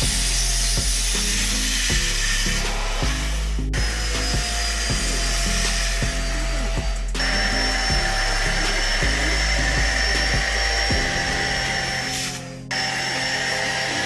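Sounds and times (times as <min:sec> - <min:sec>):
handheld vacuum cleaner running: 0:00.0 - 0:14.0.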